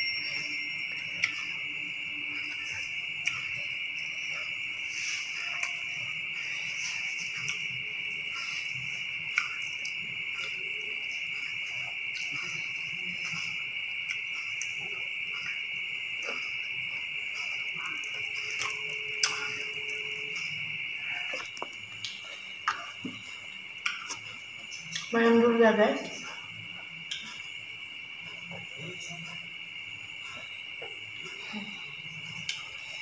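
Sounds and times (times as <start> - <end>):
soft eating sounds: 0.0 - 25.4, 26.0 - 33.0.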